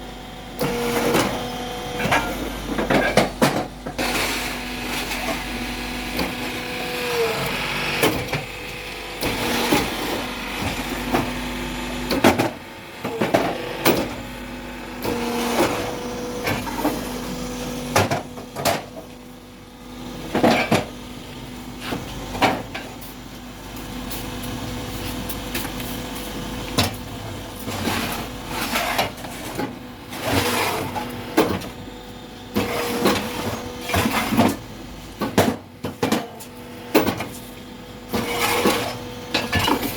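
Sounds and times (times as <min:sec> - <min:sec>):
motor hum: 0:00.0 - 0:35.3.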